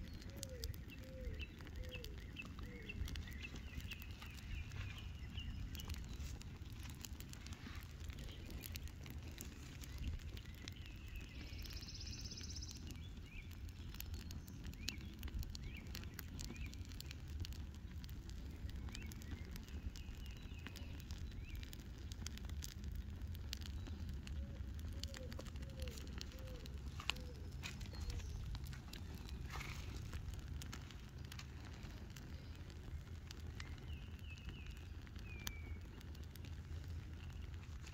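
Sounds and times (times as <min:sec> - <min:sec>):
fire crackling and popping: 0:00.0 - 0:37.9
low rumble of flames: 0:00.0 - 0:37.9.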